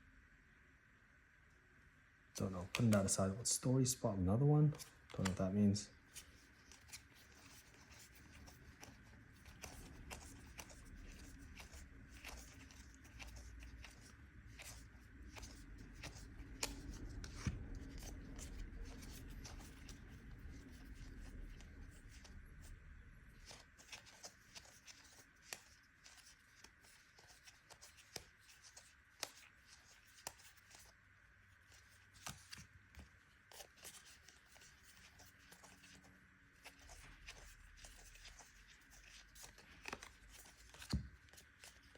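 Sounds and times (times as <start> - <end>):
cards ticking and rustling: 2.4 - 3.3, 4.6 - 22.7, 23.3 - 41.9.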